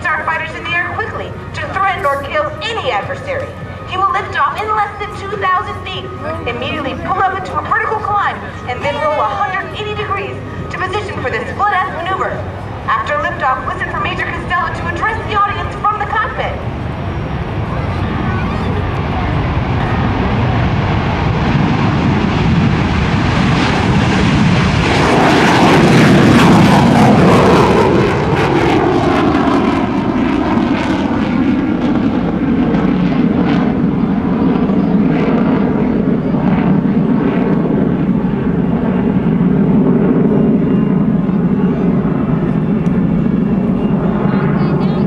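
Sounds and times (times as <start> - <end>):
jet engines taking off: 0.0 - 45.0.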